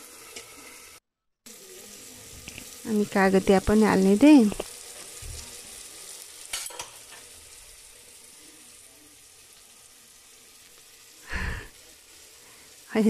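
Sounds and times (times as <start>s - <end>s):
sauce sizzling in oil: 0.0s - 13.0s.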